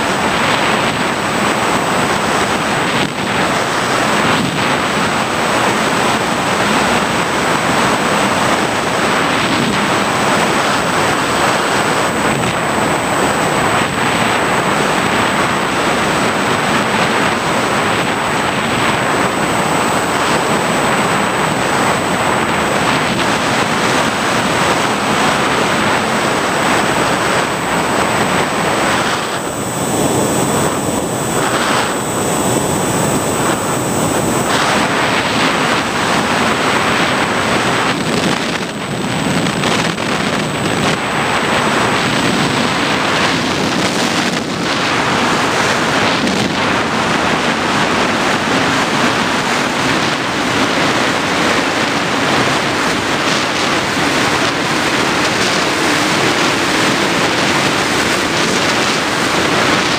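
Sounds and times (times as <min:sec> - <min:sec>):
airflow rushing over microphone: 0:00.0 - 0:59.9
model aircraft motor and propeller: 0:00.0 - 0:59.9
thin high whine: 0:00.0 - 0:59.9.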